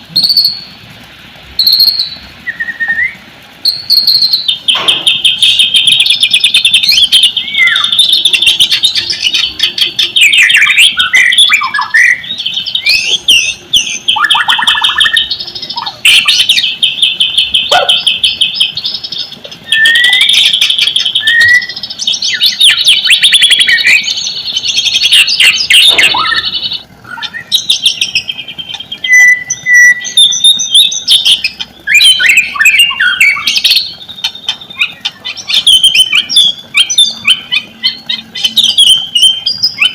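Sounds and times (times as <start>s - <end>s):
bird singing trills and whistles: 0.0s - 0.8s, 1.6s - 39.9s.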